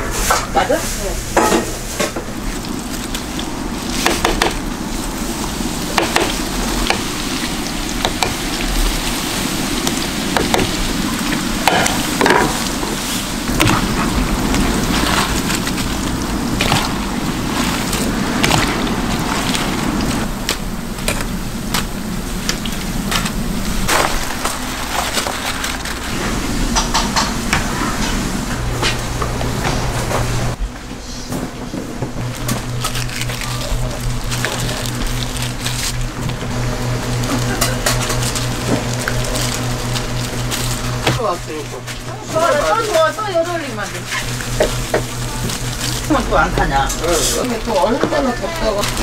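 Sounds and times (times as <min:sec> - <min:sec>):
food sizzling while frying: 0:00.1 - 0:28.1, 0:32.2 - 0:49.0.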